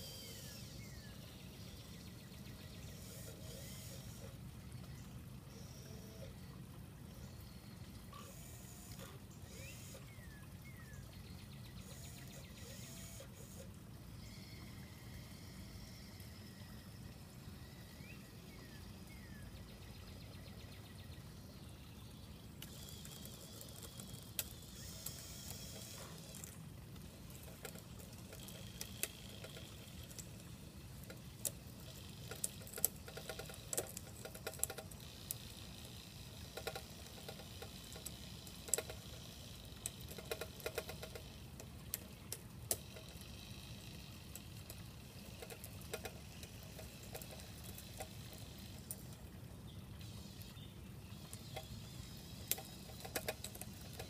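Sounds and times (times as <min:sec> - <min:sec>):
small electric motors whining: 0:00.0 - 0:01.9, 0:02.7 - 0:11.0, 0:11.6 - 0:19.5, 0:22.6 - 0:54.0
steady low hum: 0:00.0 - 0:54.0.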